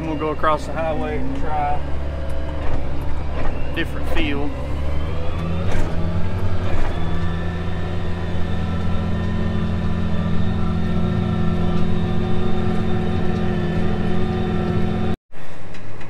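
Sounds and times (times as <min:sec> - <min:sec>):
tractor diesel engine running: 0:00.0 - 0:15.2.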